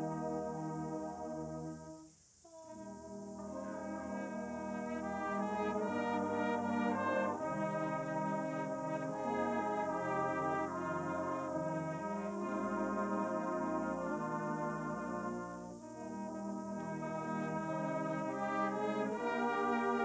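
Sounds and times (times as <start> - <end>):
brass band playing chords: 0.0 - 20.0.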